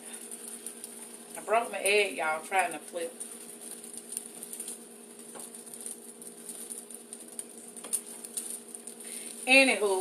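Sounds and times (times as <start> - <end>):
omelette crackling in skillet: 0.0 - 10.0.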